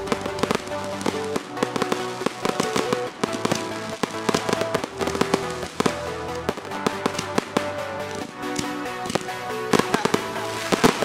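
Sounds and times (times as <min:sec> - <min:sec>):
fireworks cracking and banging: 0:00.0 - 0:11.0
music playing: 0:00.0 - 0:11.0.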